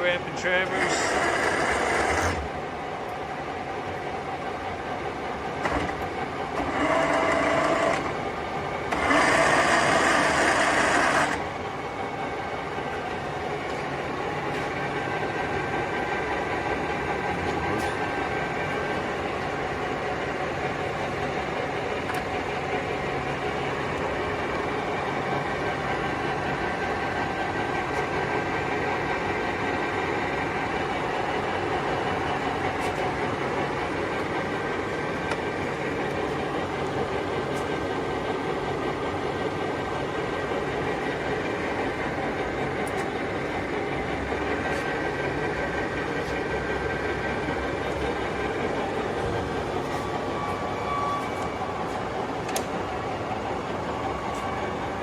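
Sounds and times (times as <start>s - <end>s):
lathe motor surge: 0.0s - 2.7s, 5.6s - 55.0s
lathe gear-drive hum: 0.0s - 55.0s.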